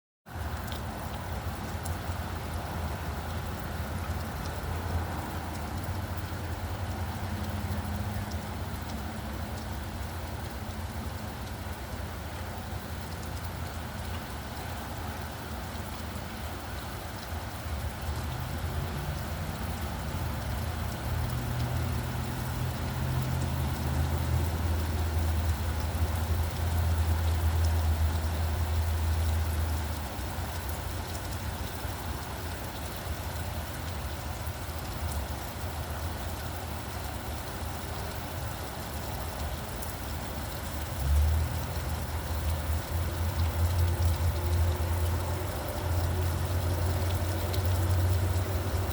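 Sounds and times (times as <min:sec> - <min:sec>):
road traffic passing: 0:00.3 - 0:15.1, 0:16.5 - 0:32.5, 0:36.8 - 0:48.9
steady rain falling: 0:00.3 - 0:48.9
vehicle low rumble: 0:00.3 - 0:48.9.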